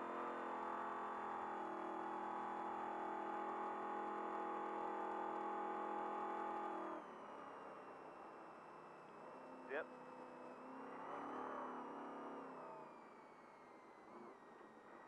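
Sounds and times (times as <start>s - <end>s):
race engine at high revs: 0.0s - 15.0s.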